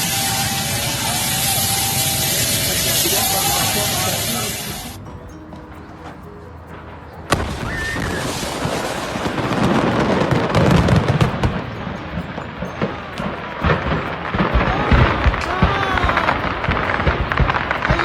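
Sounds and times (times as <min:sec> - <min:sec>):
rapid crackling: 0:00.0 - 0:18.0.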